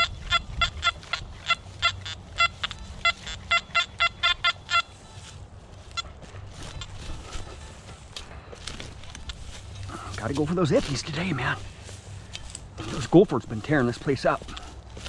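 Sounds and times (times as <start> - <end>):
metal detector beeps: 0.0 - 14.7.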